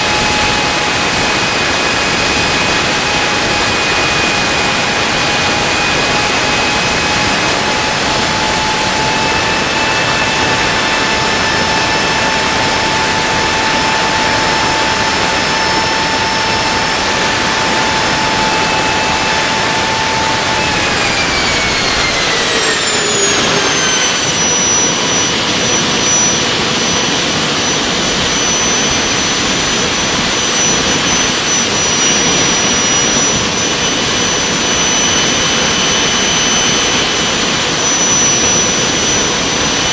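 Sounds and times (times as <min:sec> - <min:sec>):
high turbine whine: 0:00.0 - 0:39.9
jet engine roar: 0:00.0 - 0:39.9.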